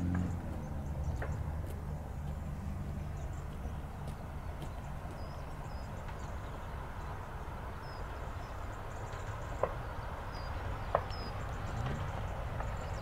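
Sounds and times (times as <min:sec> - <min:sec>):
birds chirping: 0:00.0 - 0:13.0
diesel locomotive rumble: 0:00.0 - 0:13.0.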